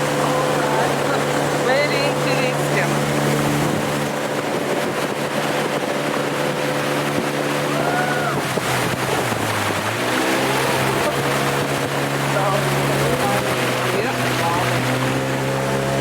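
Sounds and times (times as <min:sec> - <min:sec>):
engine running: 0:00.0 - 0:16.0
wind and water rushing: 0:00.0 - 0:16.0.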